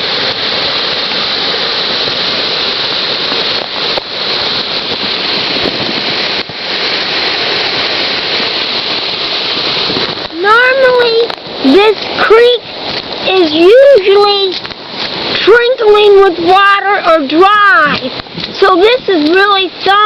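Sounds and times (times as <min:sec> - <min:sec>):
flood water rushing: 0:00.0 - 0:20.0.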